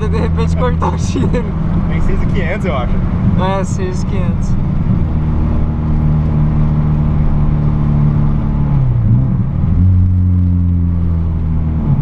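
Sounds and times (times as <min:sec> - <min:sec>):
car engine and exhaust: 0:00.0 - 0:12.0.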